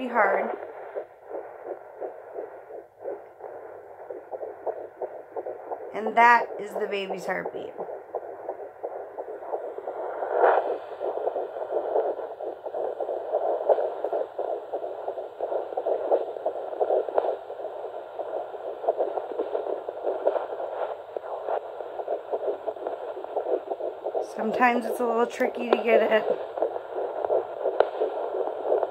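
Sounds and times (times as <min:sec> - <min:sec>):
fetal heartbeat pulsing: 0:00.0 - 0:28.9.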